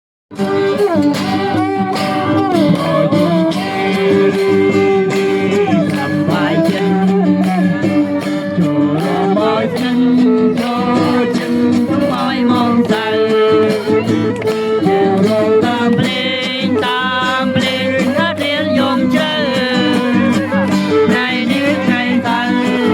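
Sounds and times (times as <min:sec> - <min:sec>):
guitar: 0:00.3 - 0:22.9
person singing: 0:00.4 - 0:22.9
steady beat: 0:00.4 - 0:22.9.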